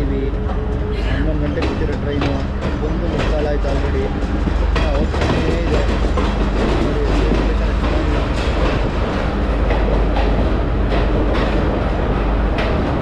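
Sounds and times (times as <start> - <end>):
train rumbling: 0.0 - 13.0
wheels clacking over rail joints: 1.4 - 13.0.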